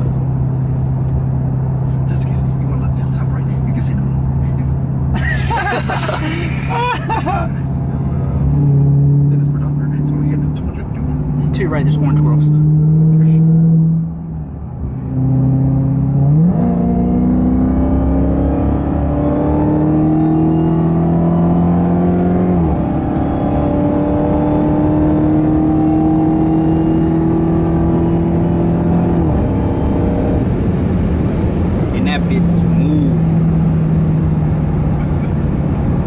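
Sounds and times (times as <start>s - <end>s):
car engine revving through gears: 0.0s - 36.0s.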